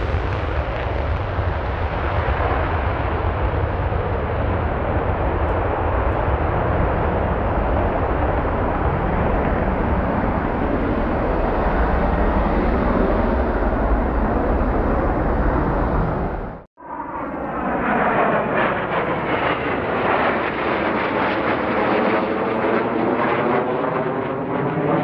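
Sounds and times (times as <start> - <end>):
jet engines running loud: 0.0 - 25.0.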